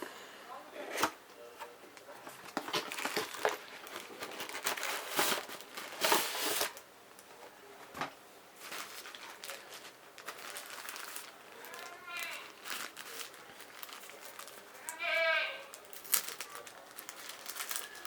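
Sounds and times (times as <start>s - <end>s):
plastic packaging crinkling and tearing: 2.2s - 7.3s, 8.6s - 18.0s.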